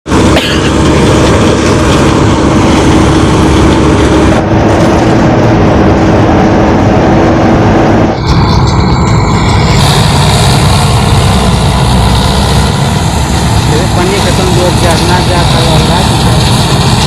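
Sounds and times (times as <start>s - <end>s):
combine harvester running: 0.0s - 17.0s
steady hum: 0.1s - 17.0s.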